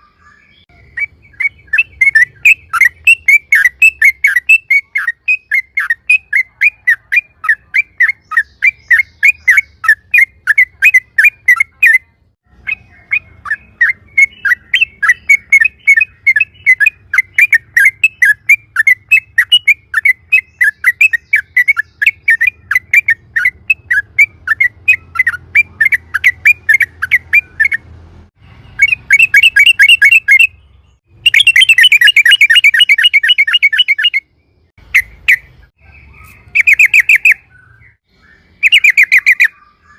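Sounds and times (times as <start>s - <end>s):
bulbul singing rapid chirps: 0.0s - 39.9s.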